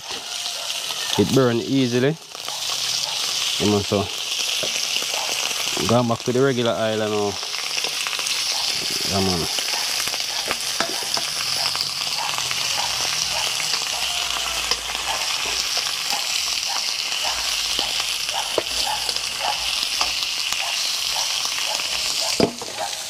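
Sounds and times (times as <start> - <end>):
fish frying in oil: 0.0 - 23.0.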